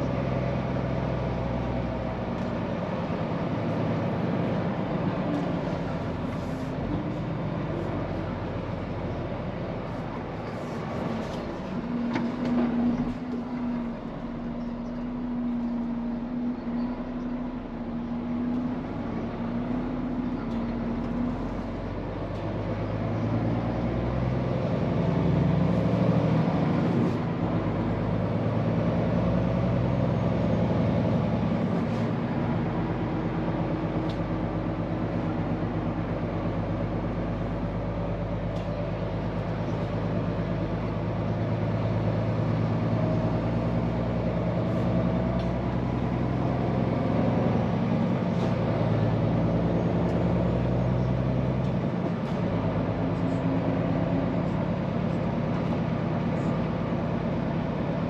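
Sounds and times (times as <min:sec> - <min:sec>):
truck diesel engine driving: 0:00.0 - 0:58.0.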